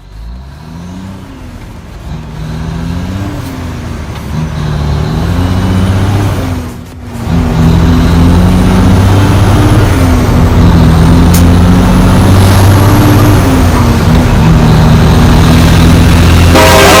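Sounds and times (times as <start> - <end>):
diesel truck engine braking: 0.0 - 17.0.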